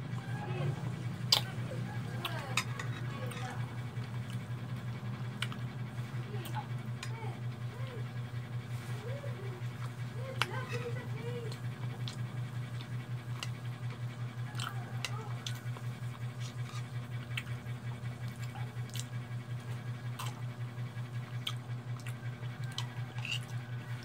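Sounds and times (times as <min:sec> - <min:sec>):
low fluttering hum: 0:00.0 - 0:24.0.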